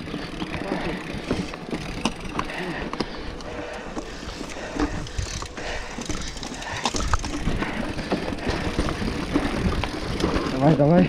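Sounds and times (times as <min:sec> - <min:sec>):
bike frame rattling: 0:00.0 - 0:11.0
bike tyres crunching over ground: 0:00.0 - 0:11.0.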